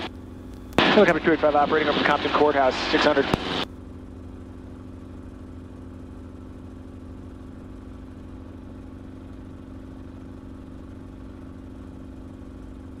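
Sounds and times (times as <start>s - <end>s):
helicopter engine and rotors drone: 0.0s - 13.0s.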